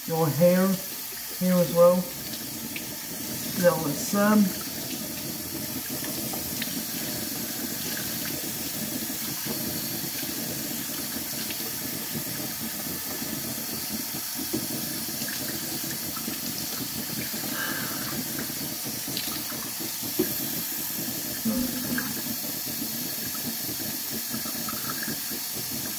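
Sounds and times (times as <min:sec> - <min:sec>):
faucet water splashing in sink: 0:00.0 - 0:25.9.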